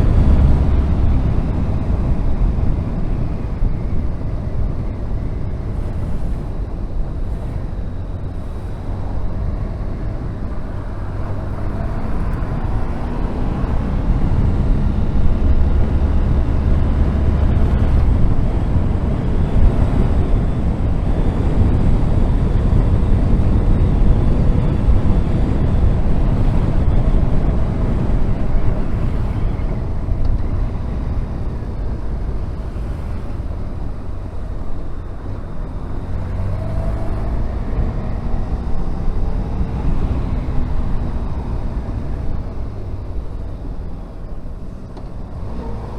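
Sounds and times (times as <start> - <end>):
wind rush: 0.0 - 45.9.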